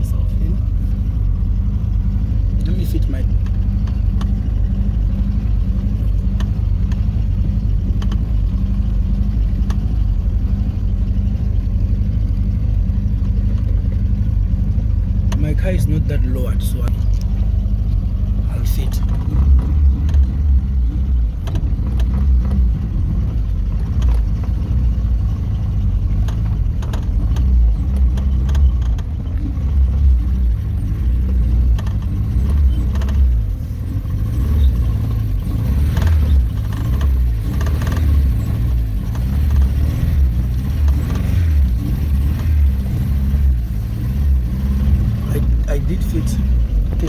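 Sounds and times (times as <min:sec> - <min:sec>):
car engine at low speed: 0:00.0 - 0:47.0
deep thumping bass: 0:00.0 - 0:47.0.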